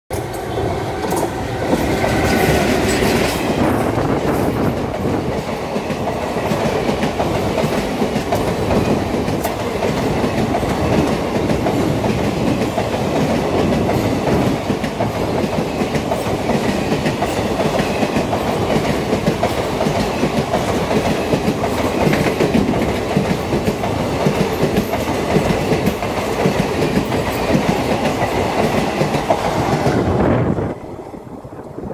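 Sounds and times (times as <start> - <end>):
train wheels clattering over rail joints: 0.1 - 30.0
electric locomotive passing: 0.1 - 31.9.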